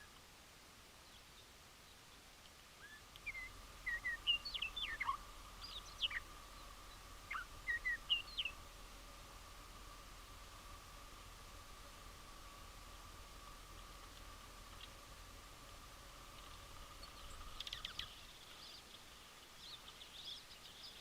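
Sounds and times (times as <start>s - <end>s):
faint steady tone: 0.0s - 21.0s
songbirds chirping: 0.0s - 21.0s.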